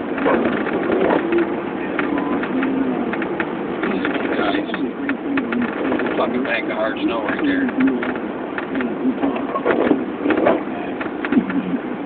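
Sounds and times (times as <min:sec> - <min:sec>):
truck cab wavering hum: 0:00.0 - 0:12.0.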